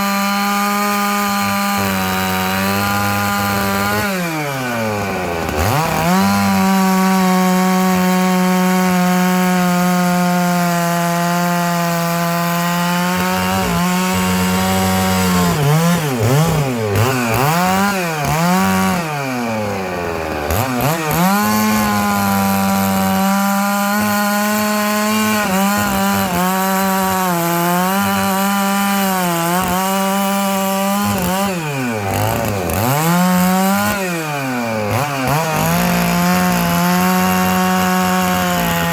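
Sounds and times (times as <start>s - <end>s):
chainsaw cutting logs: 0.0s - 38.9s.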